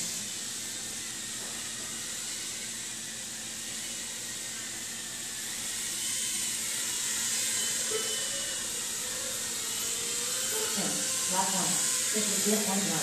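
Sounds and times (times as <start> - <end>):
quadcopter motors buzzing whine: 0.0 - 13.0.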